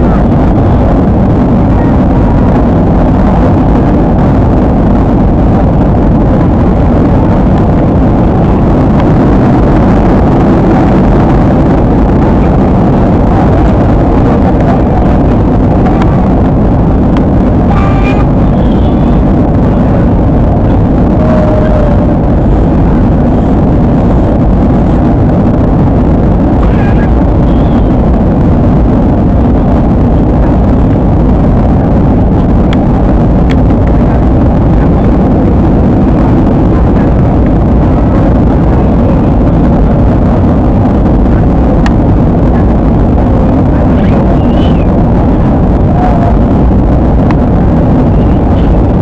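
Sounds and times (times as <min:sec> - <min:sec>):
jet cabin engine and airflow rush: 0:00.0 - 0:49.0.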